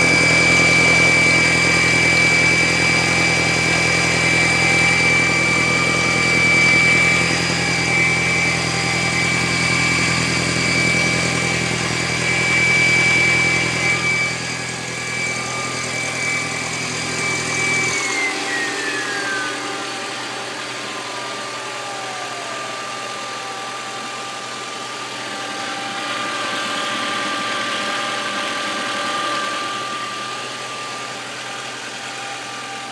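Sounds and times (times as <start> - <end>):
high-pitched whine: 0.0 - 32.9.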